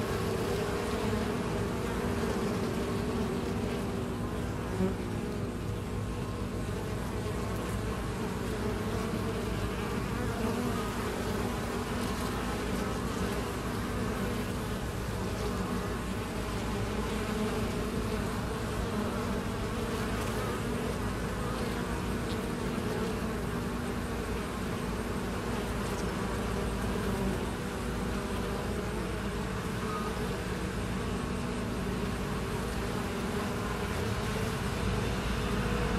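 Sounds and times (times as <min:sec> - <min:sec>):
bees buzzing: 0:00.0 - 0:35.9.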